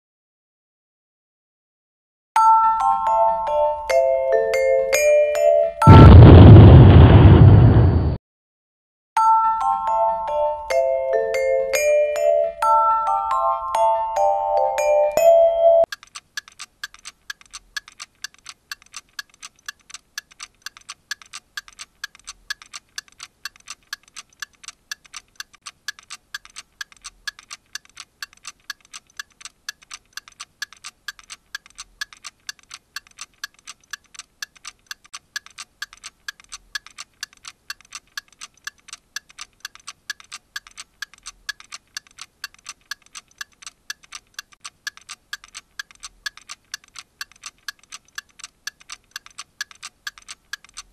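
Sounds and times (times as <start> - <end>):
clock ticking: 9.9 - 50.9.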